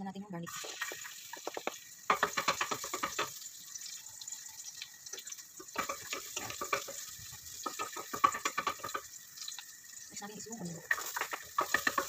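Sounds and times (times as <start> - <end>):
garlic sizzling in hot oil: 0.4 - 12.0.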